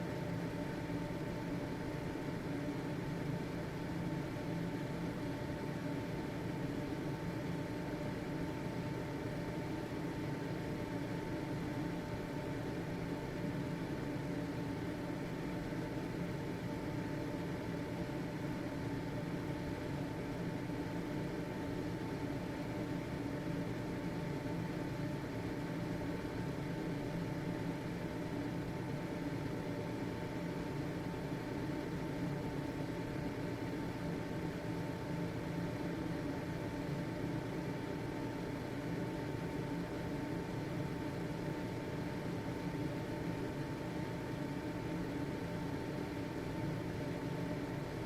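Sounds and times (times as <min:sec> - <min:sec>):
thin constant whine: 0:00.0 - 0:48.0
ventilation fan air rush: 0:00.0 - 0:48.0.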